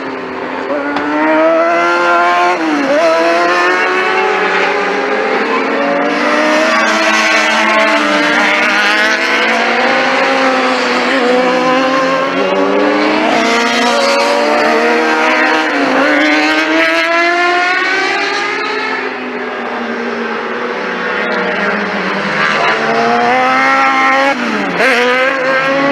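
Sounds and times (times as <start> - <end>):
motorcycle engines revving: 0.0 - 25.9.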